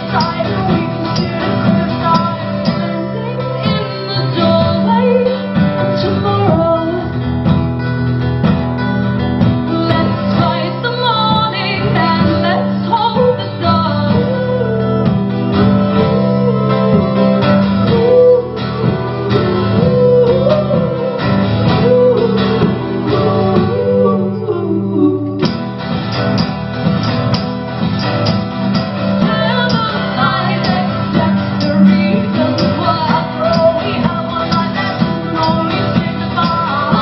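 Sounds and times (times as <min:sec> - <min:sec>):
woman singing: 0:00.0 - 0:07.6, 0:09.4 - 0:26.5, 0:28.8 - 0:37.0
strummed and plucked guitars: 0:00.0 - 0:37.0.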